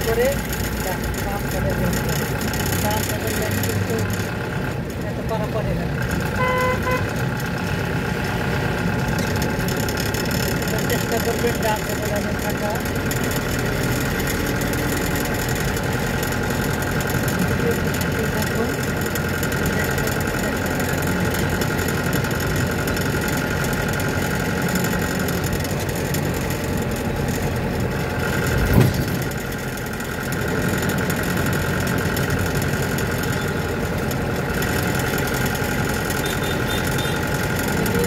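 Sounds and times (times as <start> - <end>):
car engine and tyre noise: 0.0 - 38.0.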